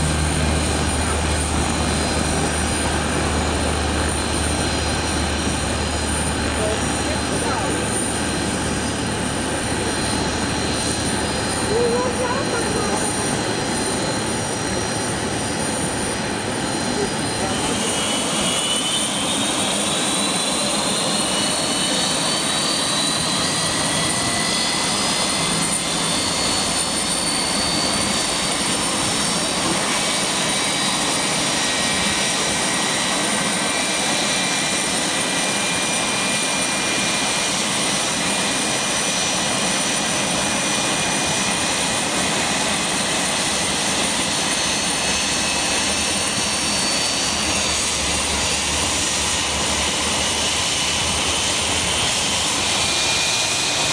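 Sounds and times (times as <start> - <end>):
constant rushing roar: 0.0 - 53.9
jet engine whining: 0.0 - 53.9.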